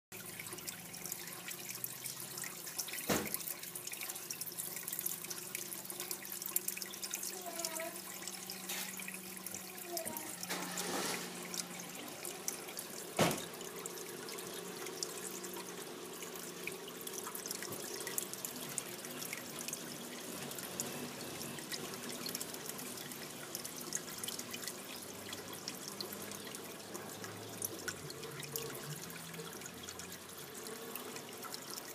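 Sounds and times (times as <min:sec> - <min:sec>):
water trickling into fish tank: 0:00.1 - 0:31.9.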